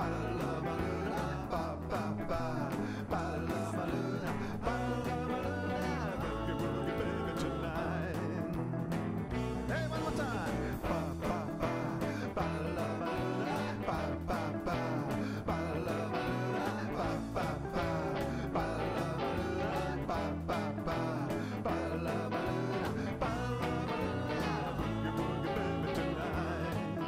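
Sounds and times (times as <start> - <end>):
guitar-led song with steady beat: 0.0 - 27.0.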